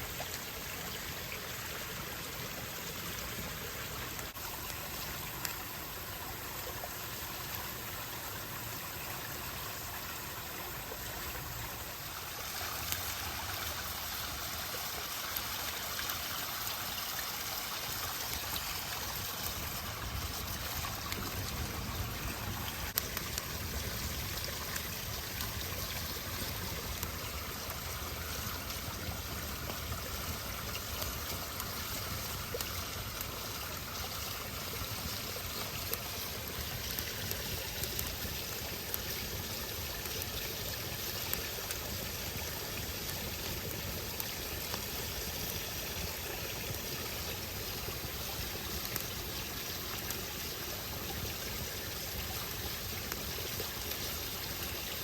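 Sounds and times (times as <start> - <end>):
campfire crackling and popping: 4.1 - 7.7, 12.4 - 55.0.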